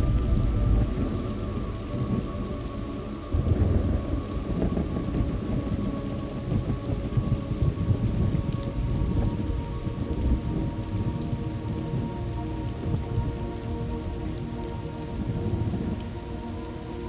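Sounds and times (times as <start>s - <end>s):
rolling thunder: 0.0s - 16.2s
faint steady drone: 0.0s - 17.0s
steady rain: 0.0s - 17.0s.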